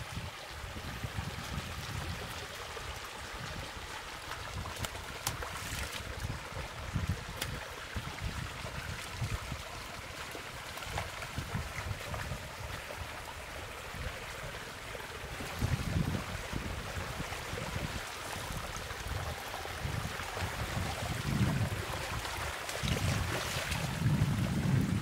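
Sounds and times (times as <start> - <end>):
moving water: 0.0 - 25.0
wind buffeting microphone: 0.0 - 25.0.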